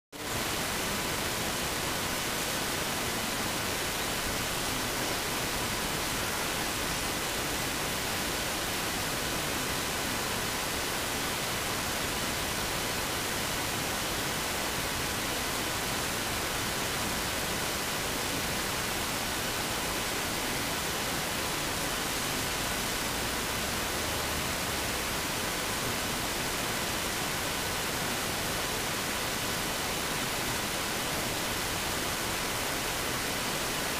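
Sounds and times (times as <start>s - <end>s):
static hiss: 0.2s - 33.9s.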